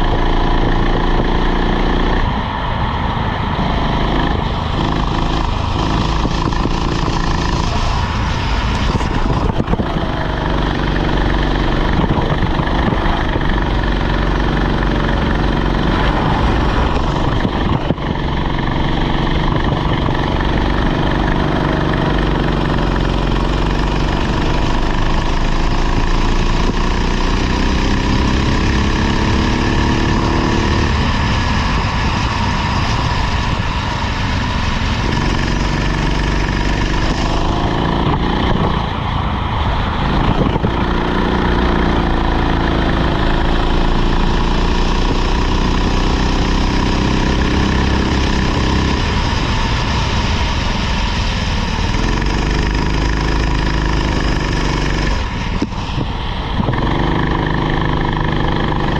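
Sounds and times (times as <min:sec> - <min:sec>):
kart engine revving: 0:00.0 - 0:02.5, 0:03.2 - 0:58.9.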